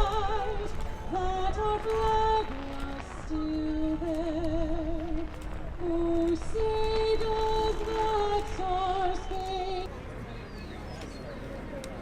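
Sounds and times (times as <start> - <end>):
woman singing slow melody: 0.0 - 9.9.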